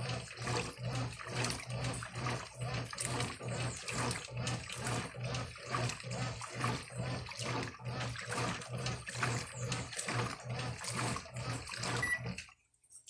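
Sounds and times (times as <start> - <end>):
washing machine motor humming: 0.0 - 12.5
water and clothes churning: 0.0 - 12.5.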